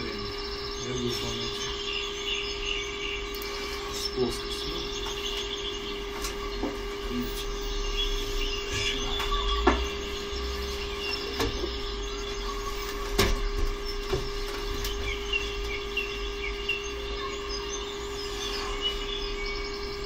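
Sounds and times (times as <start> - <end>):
birds chirping: 0.0 - 20.0
steady hum: 0.0 - 20.0.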